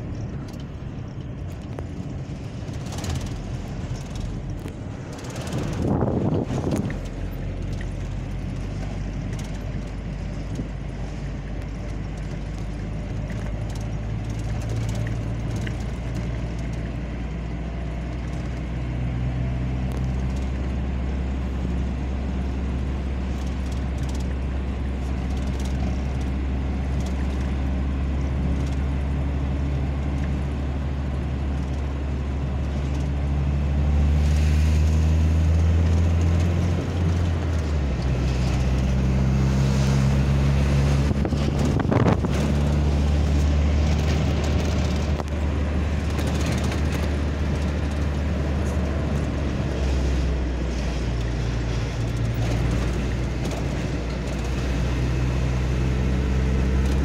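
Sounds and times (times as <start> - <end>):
car engine hum and road noise: 0.0 - 57.0
heavy diesel machine engine: 0.0 - 57.0.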